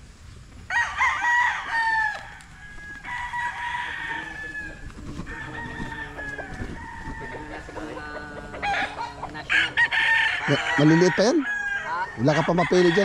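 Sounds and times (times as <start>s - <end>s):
roosters crowing: 0.6s - 13.0s.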